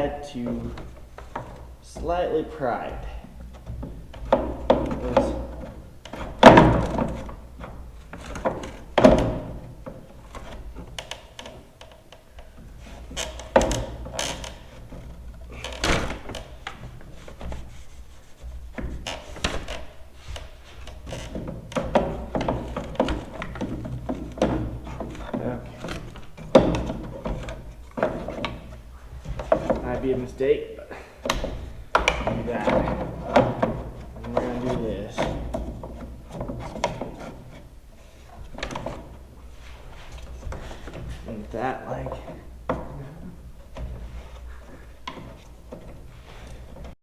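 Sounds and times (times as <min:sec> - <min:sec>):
plastic parts knocking and clunking: 0:00.0 - 0:47.0.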